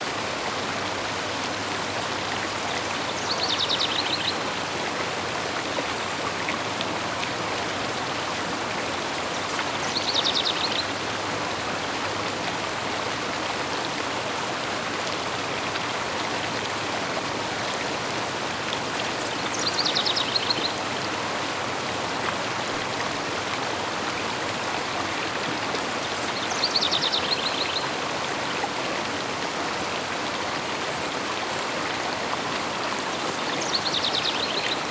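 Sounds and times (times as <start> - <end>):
river flowing: 0.0 - 34.9.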